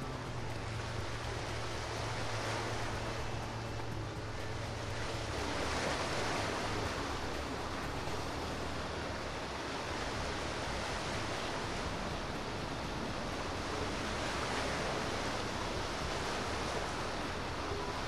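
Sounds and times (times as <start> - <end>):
rushing water: 0.0 - 18.0
wind: 0.0 - 18.0.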